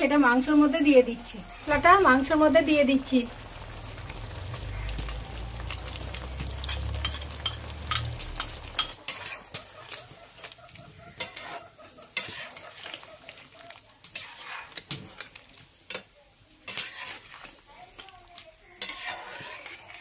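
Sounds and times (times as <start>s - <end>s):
food sizzling: 0.0s - 20.0s
utensil scraping frying pan: 3.5s - 20.0s.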